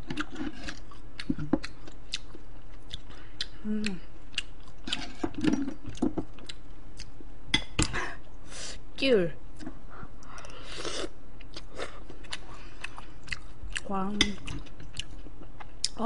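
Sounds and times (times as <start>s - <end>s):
chewing: 0.0s - 7.2s, 9.6s - 16.0s.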